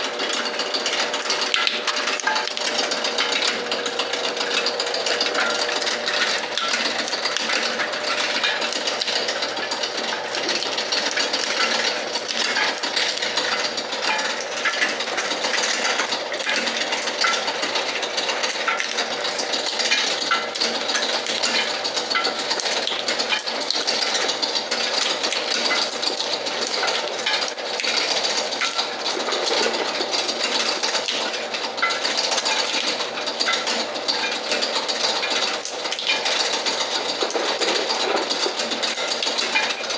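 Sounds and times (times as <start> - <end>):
cashew-shelling machine clattering: 0.0 - 39.9.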